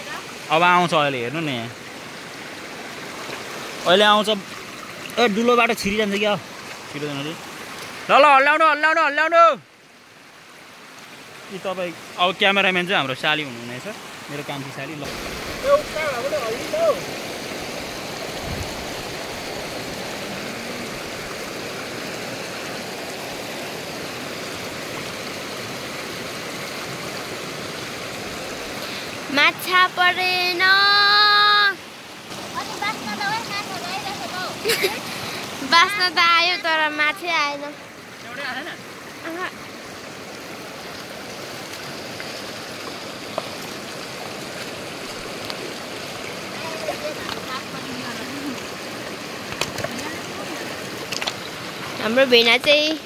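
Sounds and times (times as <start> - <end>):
stream running over stones: 0.0 - 53.0.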